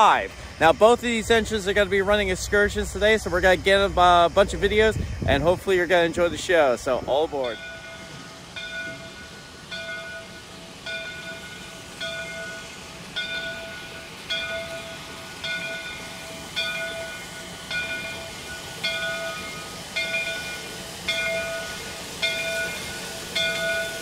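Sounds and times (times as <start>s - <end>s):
locomotive bell ringing: 0.0s - 24.0s.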